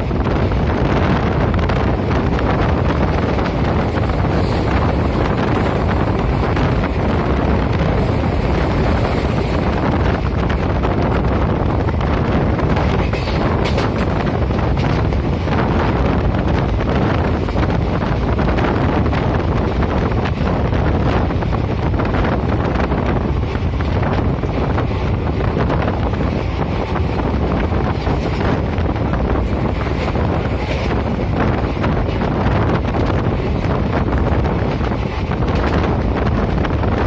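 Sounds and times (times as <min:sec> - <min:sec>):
moving train rumbling: 0:00.0 - 0:37.0
wind buffeting microphone: 0:00.0 - 0:37.0.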